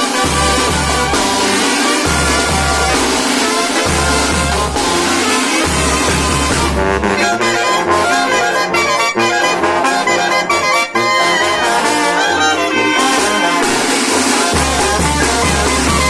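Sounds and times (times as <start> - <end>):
low brass bass line: 0.0 - 16.0
trumpets and trombones: 0.0 - 16.0.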